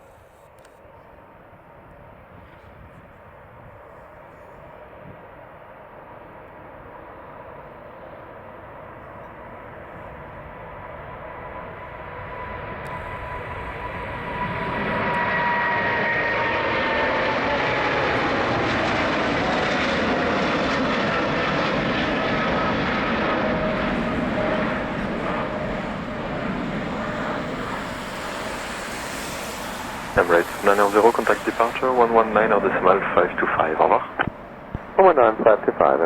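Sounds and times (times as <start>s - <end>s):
high jet engine whine: 0.0s - 36.0s
jet engines roaring: 1.6s - 36.0s.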